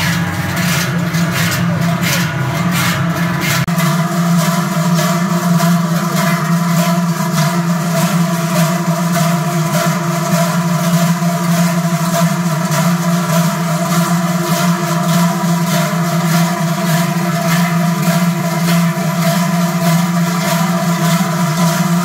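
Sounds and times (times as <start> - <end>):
large cowbells clanging: 0.0 - 22.0.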